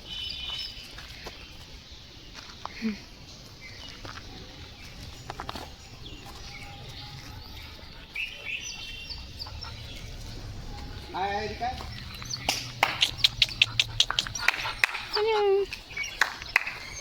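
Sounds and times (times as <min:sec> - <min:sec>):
low outdoor background noise: 0:00.0 - 0:17.0
small birds chirping: 0:00.0 - 0:17.0.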